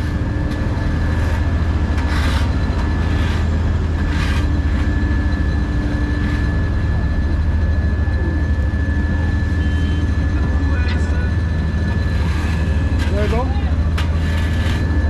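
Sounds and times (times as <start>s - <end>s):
diesel engine rumbling: 0.0s - 15.0s
steady high whine: 0.0s - 15.0s.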